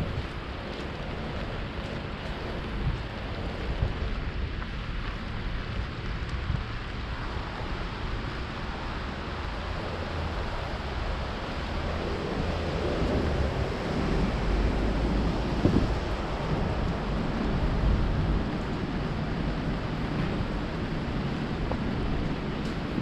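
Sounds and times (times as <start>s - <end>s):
rain hiss: 0.0s - 23.0s
wind buffeting microphone: 0.0s - 23.0s.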